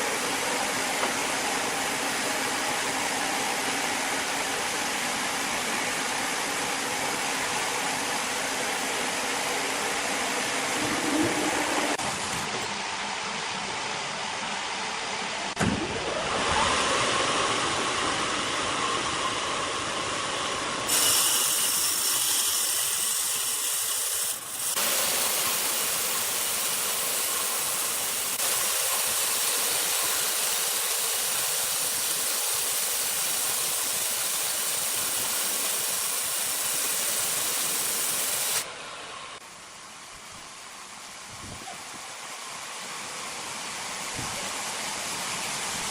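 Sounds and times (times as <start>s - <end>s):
sawmill machinery running: 0.0s - 41.3s.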